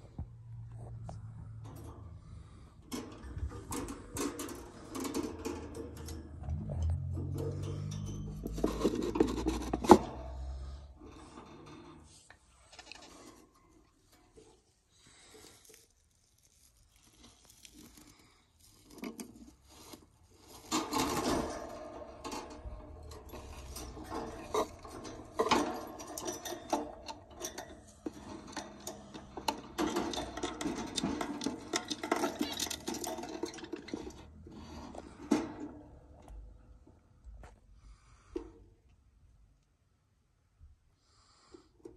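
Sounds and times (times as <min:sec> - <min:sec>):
rustling and scraping: 0:00.0 - 0:38.6.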